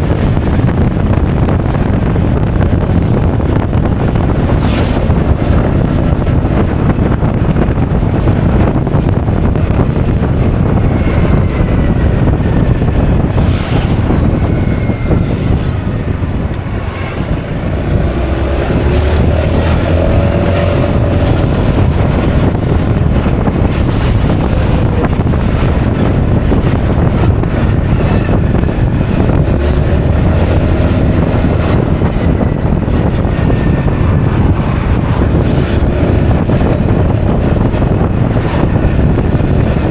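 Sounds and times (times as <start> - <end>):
road noise: 0.0 - 39.9
scooter engine: 0.0 - 39.9
wind buffeting microphone: 0.0 - 39.9.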